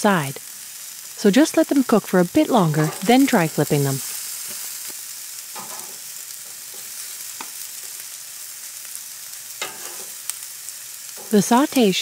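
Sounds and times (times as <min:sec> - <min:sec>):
skewers sizzling on a grill: 0:00.0 - 0:12.0.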